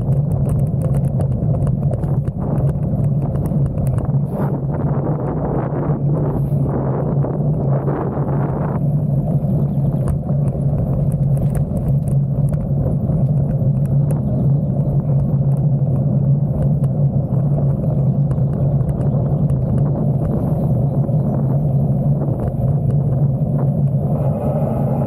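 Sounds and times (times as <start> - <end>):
bike tyres rolling on pavement: 0.0 - 25.0.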